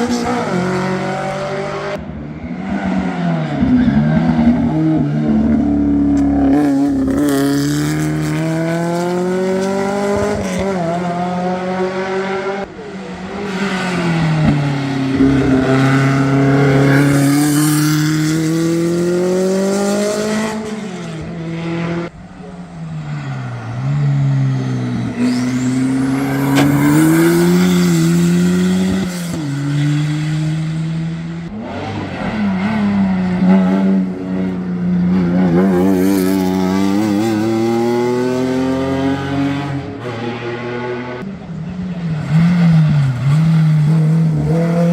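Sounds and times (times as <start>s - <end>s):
race car engine at full throttle: 0.0s - 44.9s.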